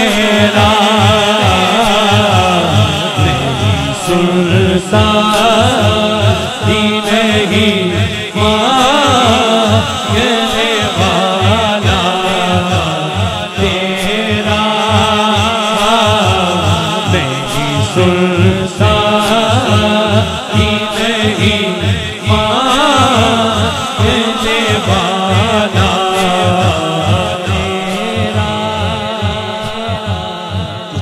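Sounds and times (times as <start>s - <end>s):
chanted backing chorus: 0.0s - 31.0s
men singing: 0.0s - 31.0s
low drum beat: 0.4s - 31.0s.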